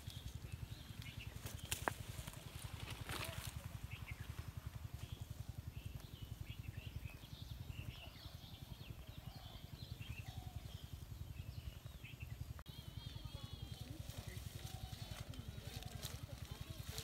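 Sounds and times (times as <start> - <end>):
low fast throbbing: 0.0 - 17.0
small birds chirping: 0.0 - 17.0.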